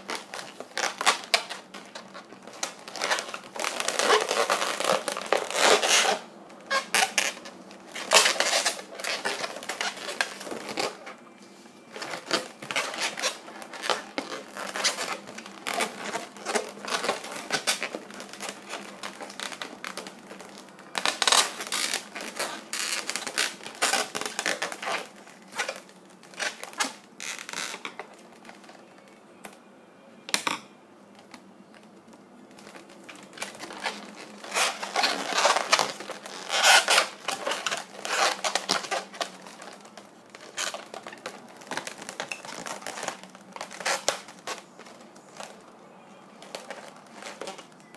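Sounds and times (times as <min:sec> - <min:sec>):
latex balloons squeaking: 0:00.0 - 0:11.2, 0:11.9 - 0:29.2, 0:32.6 - 0:47.9.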